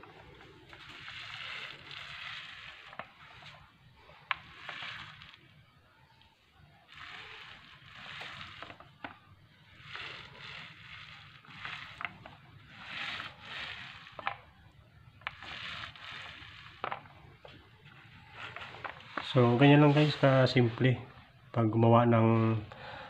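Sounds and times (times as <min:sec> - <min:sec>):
foam roller swishing on wet coating: 0:00.0 - 0:21.1.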